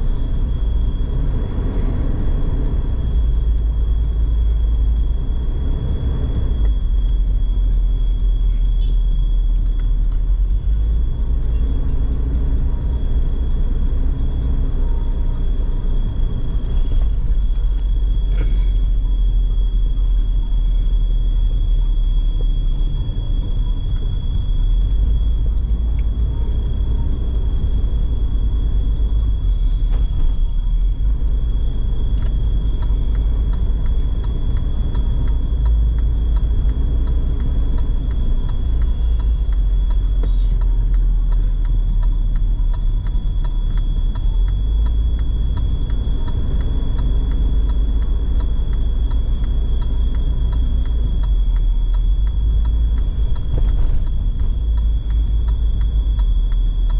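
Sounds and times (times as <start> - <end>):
car driving rumble: 0.0 - 56.9.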